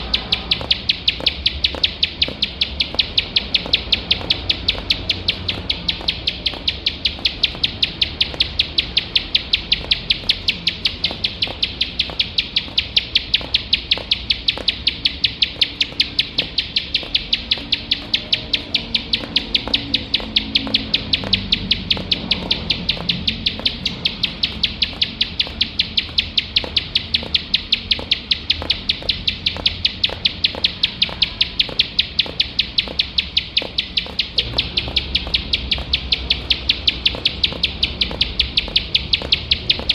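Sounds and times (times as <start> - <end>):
small bird singing high notes: 0.0 - 39.9.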